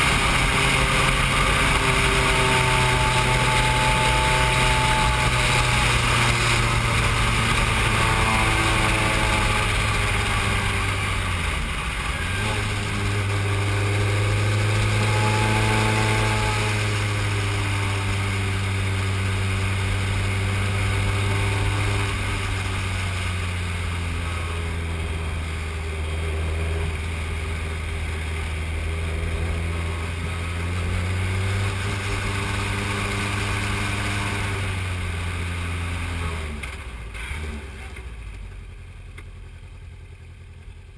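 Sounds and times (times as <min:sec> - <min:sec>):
racing car engine under load: 0:00.0 - 0:40.9.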